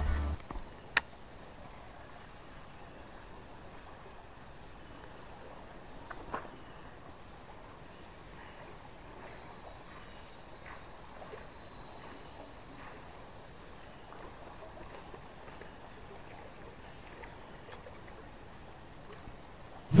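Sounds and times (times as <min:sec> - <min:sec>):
flowing river: 0:00.0 - 0:20.0.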